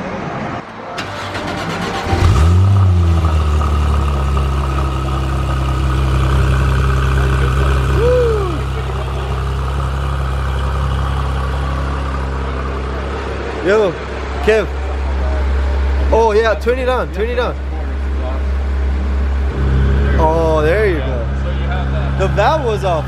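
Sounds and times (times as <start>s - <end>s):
car engine idling: 1.0s - 23.0s.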